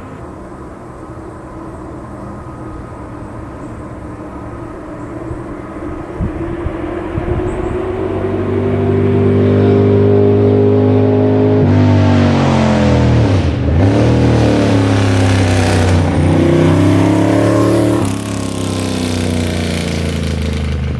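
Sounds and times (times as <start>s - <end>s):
motorcycle engine revving: 2.5s - 20.9s.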